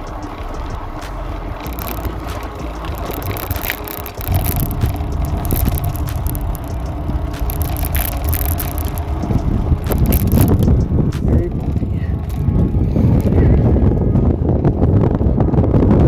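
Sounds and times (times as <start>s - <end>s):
bicycle tyres on pavement: 0.0s - 16.0s
bike rattles and knocks: 0.0s - 16.0s
low rumble: 0.0s - 16.0s.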